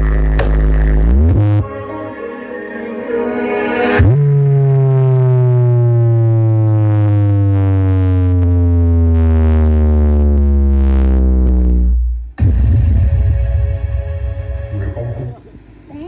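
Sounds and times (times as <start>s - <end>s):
synthesized bass tone sliding down: 0.0s - 15.4s.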